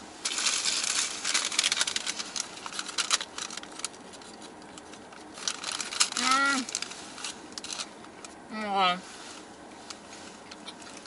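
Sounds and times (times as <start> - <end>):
paper wrapper crinkling: 0.2 - 8.4, 9.1 - 11.0.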